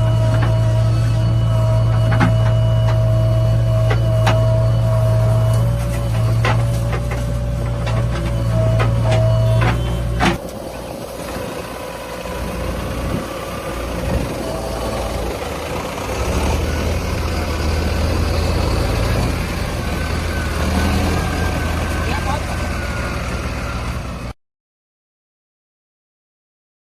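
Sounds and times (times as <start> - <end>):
heavy diesel engine running: 0.0 - 24.4.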